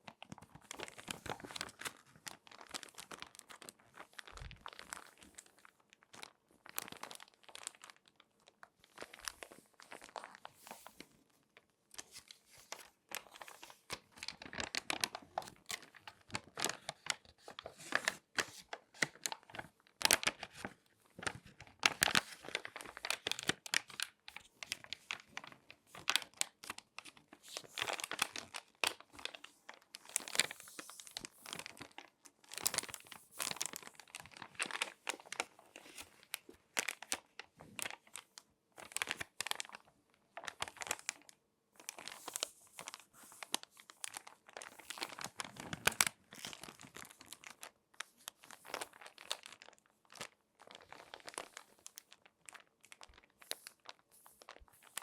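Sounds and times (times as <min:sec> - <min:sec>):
magazine pages crinkling: 0:00.1 - 0:11.2, 0:12.0 - 0:55.0.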